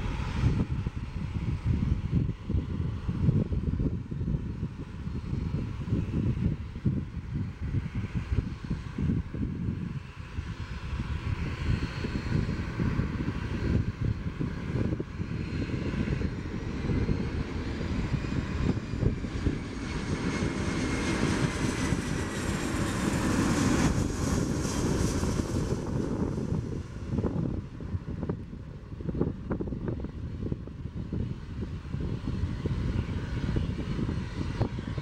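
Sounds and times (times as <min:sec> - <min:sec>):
jet airliner flying past: 0:00.0 - 0:35.0.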